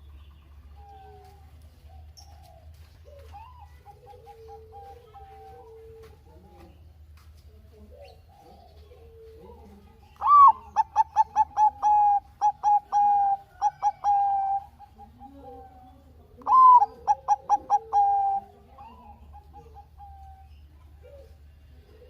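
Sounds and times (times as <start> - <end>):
dove cooing: 0.6 - 6.8, 7.6 - 22.0.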